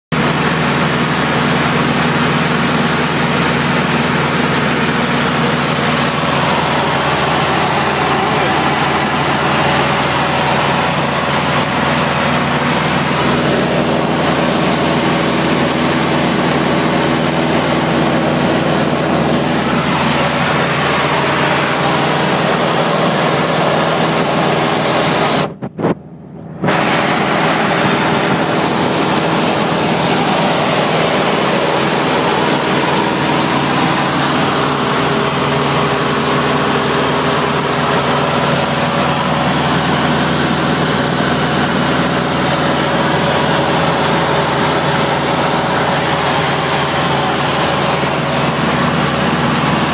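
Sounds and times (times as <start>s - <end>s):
rushing air: 2.0s - 49.9s.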